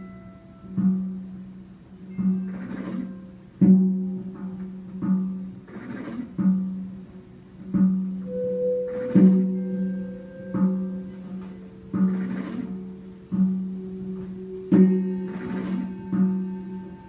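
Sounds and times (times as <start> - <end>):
drum kit: 0.0 - 17.0.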